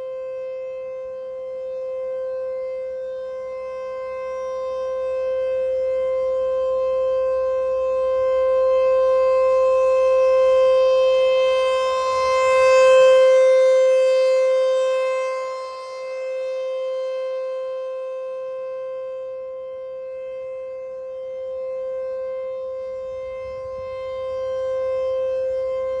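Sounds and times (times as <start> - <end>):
outdoor warning siren steady tone: 0.0 - 26.0.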